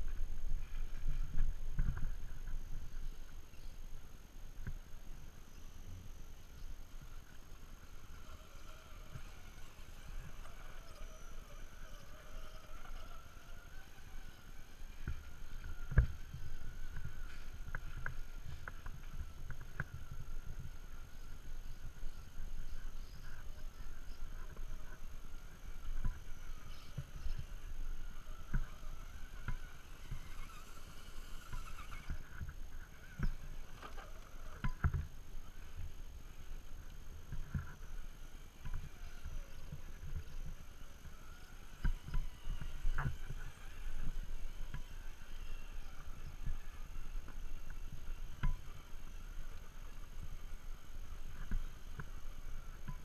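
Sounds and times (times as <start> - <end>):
electric motor whine: 4.7 - 53.0.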